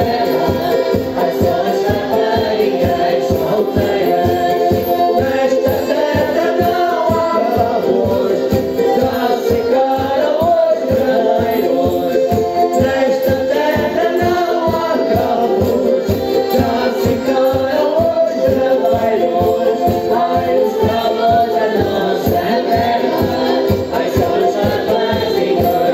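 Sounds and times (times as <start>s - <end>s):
group singing folk music: 0.0s - 25.9s
quick drum beat: 0.0s - 25.9s.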